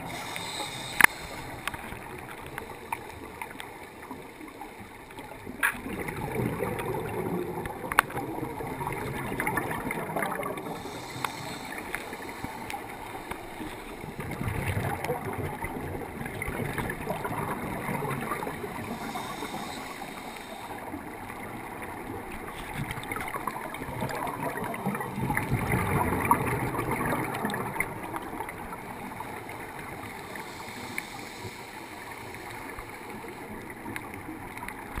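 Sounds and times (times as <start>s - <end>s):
underwater bubbles rushing: 0.0s - 35.0s.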